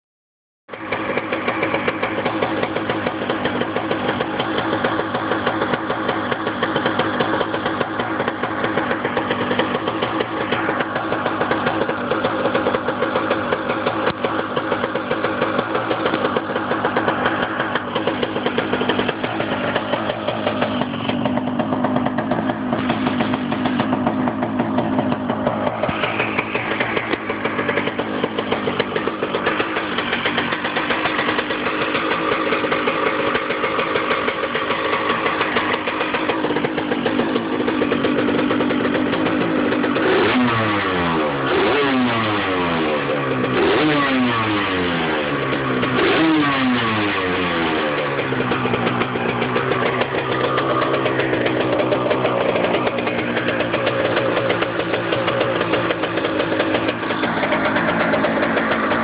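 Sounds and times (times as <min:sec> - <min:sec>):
two-stroke engine running: 0:00.7 - 0:59.0.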